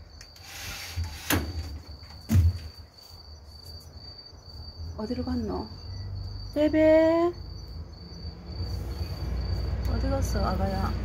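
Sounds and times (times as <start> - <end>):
cricket chirring: 0.0 - 11.0.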